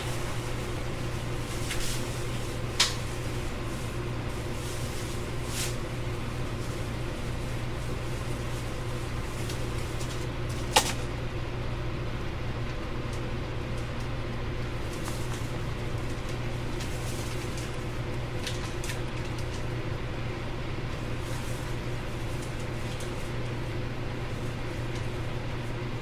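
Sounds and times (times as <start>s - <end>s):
faint steady whine: 0.0s - 26.0s
train low rumble: 0.0s - 26.0s.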